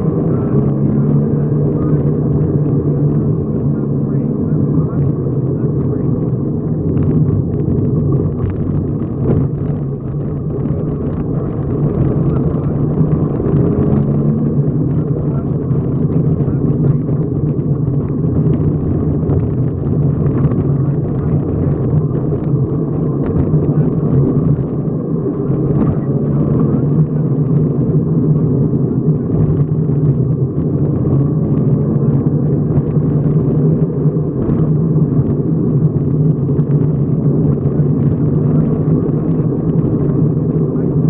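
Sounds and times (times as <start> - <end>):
car engine droning at speed: 0.0 - 41.0
gravel crackling under tyres: 0.0 - 41.0.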